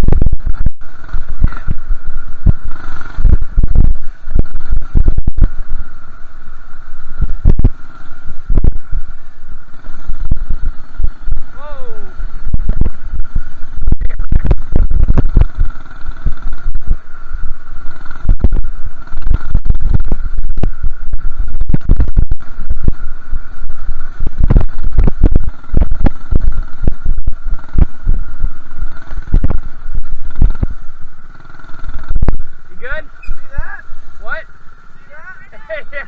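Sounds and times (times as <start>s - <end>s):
steady high whine: 0.0s - 36.0s
wind buffeting microphone: 0.0s - 36.0s.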